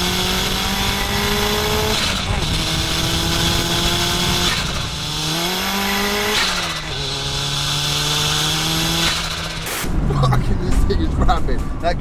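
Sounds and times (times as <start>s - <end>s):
turbocharged engine accelerating: 0.0s - 11.8s.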